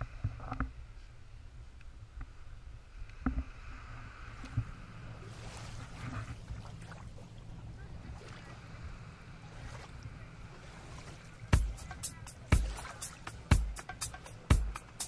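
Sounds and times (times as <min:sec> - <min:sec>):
boat engine low rumble: 0:00.0 - 0:15.0.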